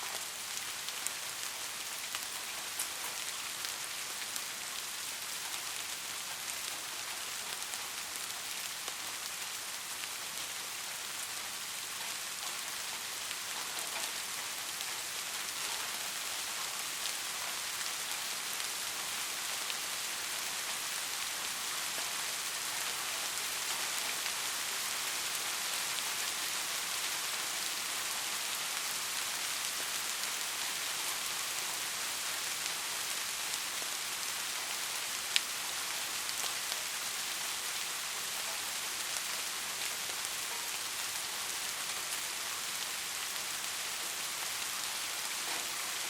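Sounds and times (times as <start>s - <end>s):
raindrops pattering on surface: 0.0s - 46.0s
steady rain hiss: 0.0s - 46.0s.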